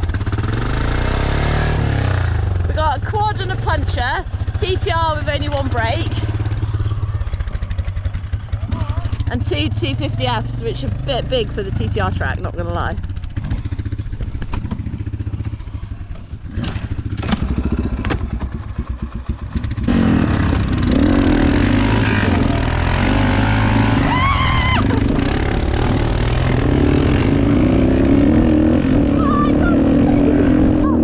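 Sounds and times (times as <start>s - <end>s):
dirt bike engine idling: 0.0s - 27.9s
dirt bikes revving: 0.0s - 31.0s.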